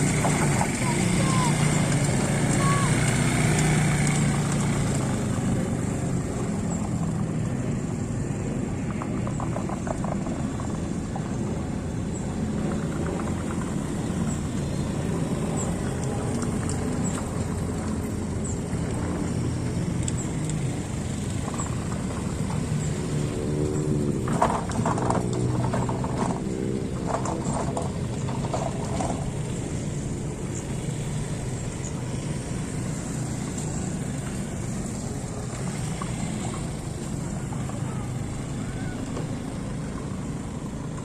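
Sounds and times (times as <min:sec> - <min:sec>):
small atv engine running: 0:00.0 - 0:41.0.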